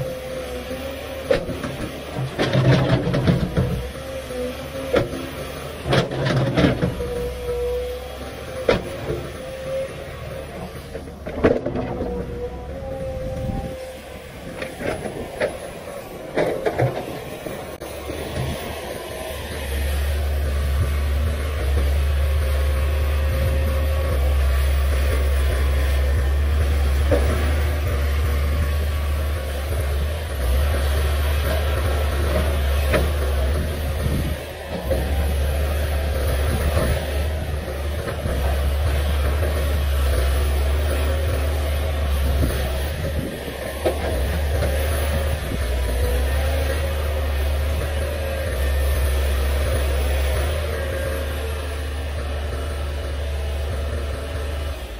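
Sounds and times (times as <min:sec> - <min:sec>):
excavator diesel engine whining: 0:00.0 - 0:54.9.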